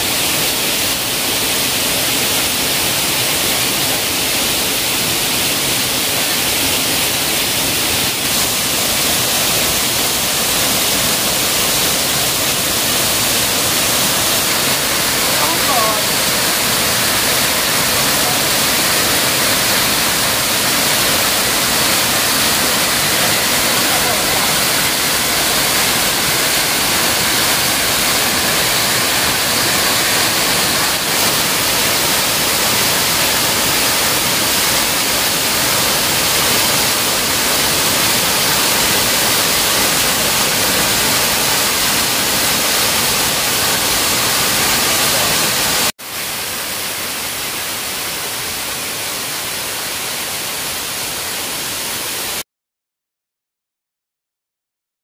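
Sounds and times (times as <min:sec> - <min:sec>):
waterfall rushing: 0:00.0 - 0:52.4.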